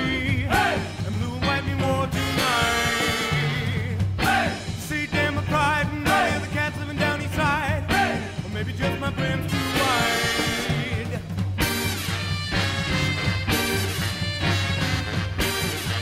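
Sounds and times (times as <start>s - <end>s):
band with singing: 0.0s - 16.0s.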